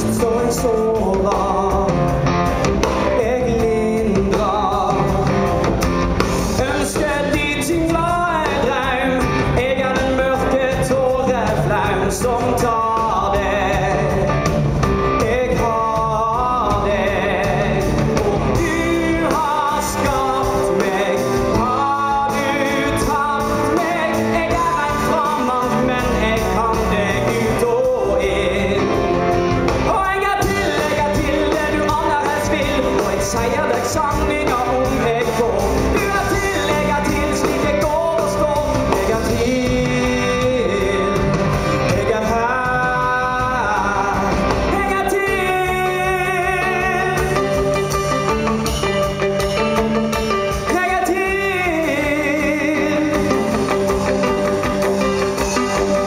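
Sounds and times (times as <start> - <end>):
man singing: 0.0 - 56.0
rock band playing: 0.0 - 56.0.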